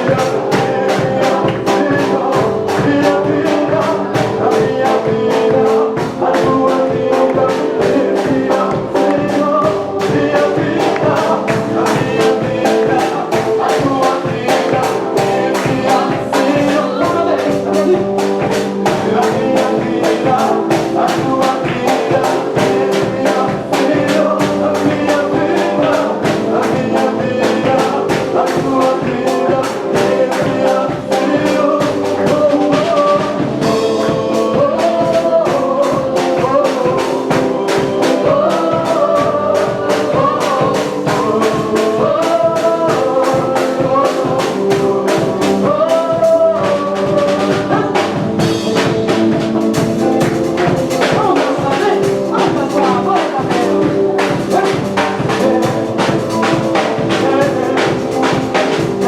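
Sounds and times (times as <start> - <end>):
band music with fast beat: 0.0 - 59.0.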